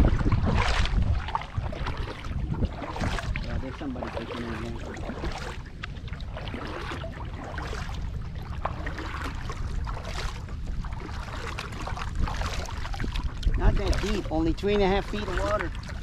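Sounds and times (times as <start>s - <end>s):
paddle splashing in water: 0.0s - 16.0s
wind on microphone: 0.0s - 16.0s.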